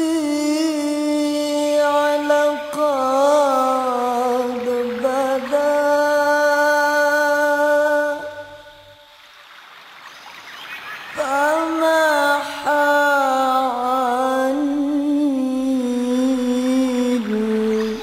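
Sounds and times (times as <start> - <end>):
person singing long held notes: 0.0 - 9.2, 11.2 - 18.0
faint hiss: 0.0 - 18.0.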